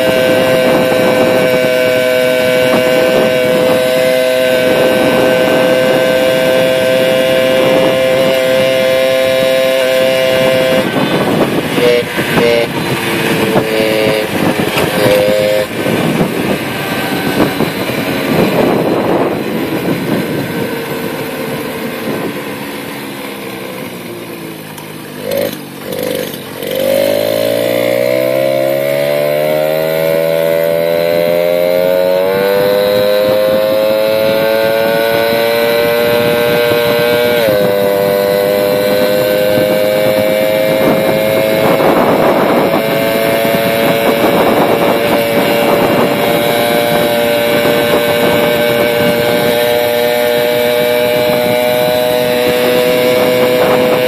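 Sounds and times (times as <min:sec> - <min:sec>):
moped two-stroke engine revving: 0:00.0 - 0:54.0.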